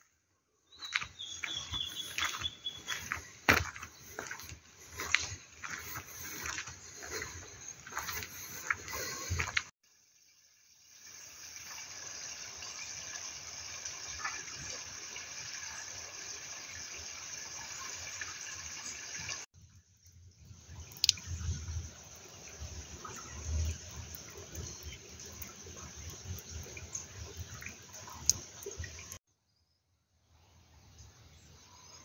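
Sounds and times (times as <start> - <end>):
water stream into stone basin: 0.8 - 29.2
running water hiss: 1.0 - 19.5, 20.4 - 29.2.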